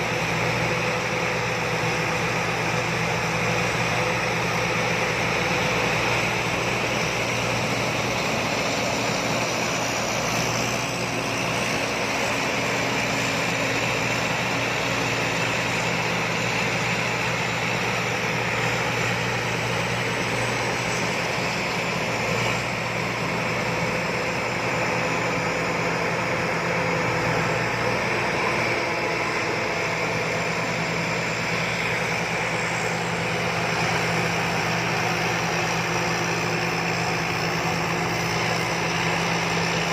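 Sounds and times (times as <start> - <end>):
combine harvester engine drone: 0.0 - 39.9
whirring harvesting machinery: 0.0 - 39.9.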